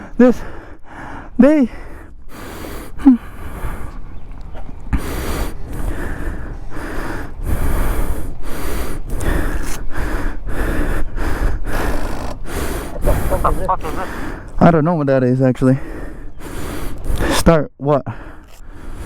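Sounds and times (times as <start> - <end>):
person breathing hard: 0.0 - 4.2, 4.9 - 14.6, 15.8 - 17.3, 18.1 - 19.0.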